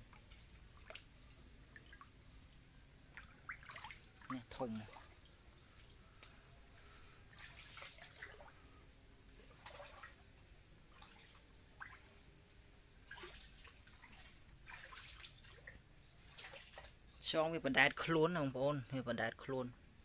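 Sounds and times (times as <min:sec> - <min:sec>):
faint water drips and splashes: 0:00.0 - 0:17.3.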